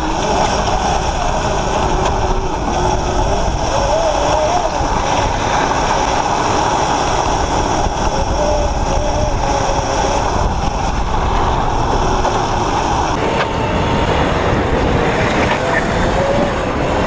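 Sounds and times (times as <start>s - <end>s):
electric motor whining: 0.0s - 17.0s
wind rumble on microphone: 0.0s - 17.0s.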